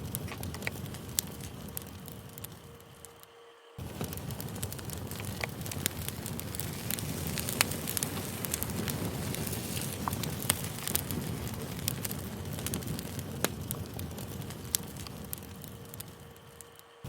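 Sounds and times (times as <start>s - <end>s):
low rush of flame: 0.0s - 3.2s, 3.8s - 16.9s
campfire crackling and popping: 0.0s - 17.0s.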